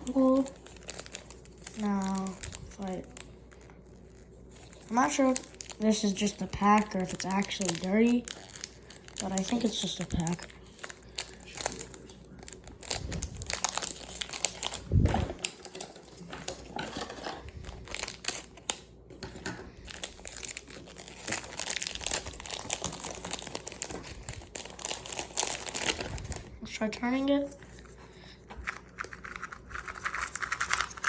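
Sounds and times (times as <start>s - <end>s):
plastic packaging crinkling: 0.0s - 28.0s, 28.6s - 31.0s.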